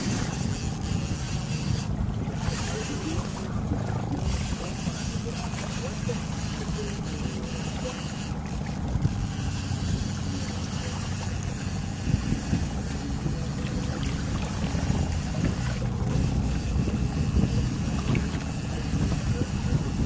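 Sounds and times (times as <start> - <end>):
outboard motor running: 0.0 - 20.0
wind: 0.0 - 20.0.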